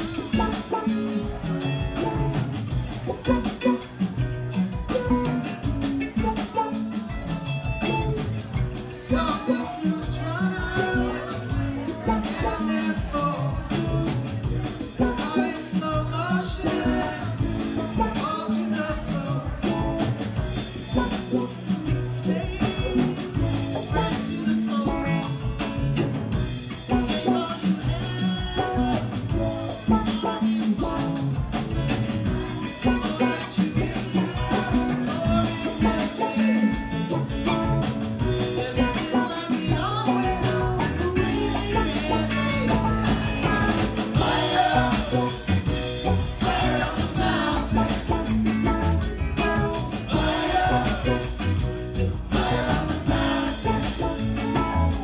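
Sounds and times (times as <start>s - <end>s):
electric guitars: 0.0s - 55.0s
live rock band playing: 0.0s - 55.0s
steady drum kit: 0.0s - 55.0s.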